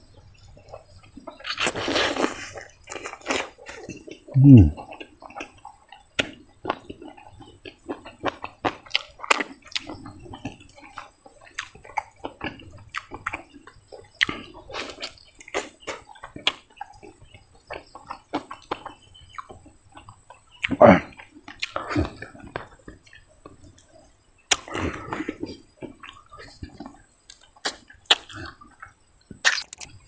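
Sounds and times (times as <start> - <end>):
wet chewing and lip-smacking: 0.1 - 30.0.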